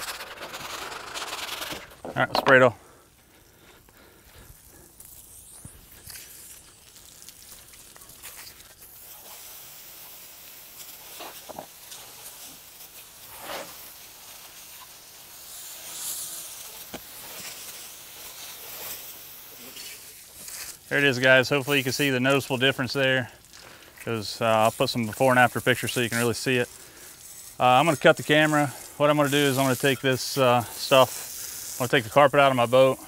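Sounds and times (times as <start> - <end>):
hose spray hissing on deck: 0.0 - 33.0.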